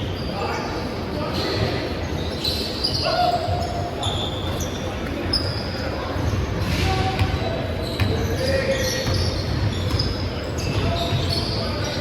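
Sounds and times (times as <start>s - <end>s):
players' voices: 0.1s - 12.0s.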